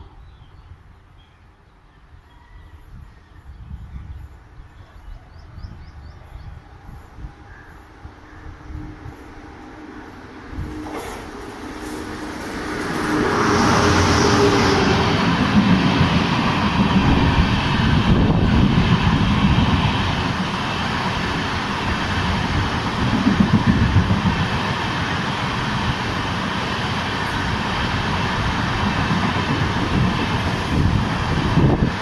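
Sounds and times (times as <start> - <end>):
train passing at high speed: 1.8 - 32.0.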